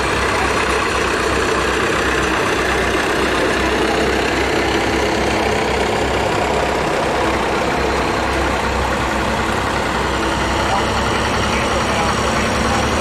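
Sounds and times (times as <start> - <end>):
tractor engine running: 0.0 - 13.0
truck engine running: 0.0 - 13.0.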